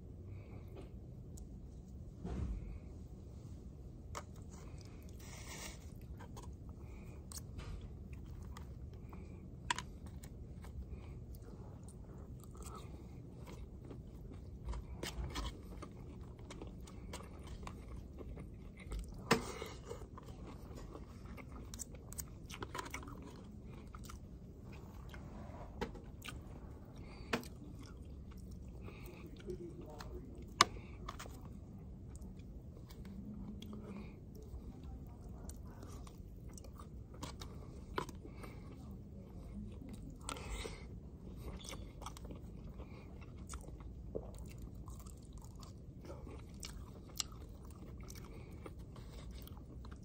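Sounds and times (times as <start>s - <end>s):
steady low hum: 0.0s - 50.0s
person chewing: 3.6s - 50.0s.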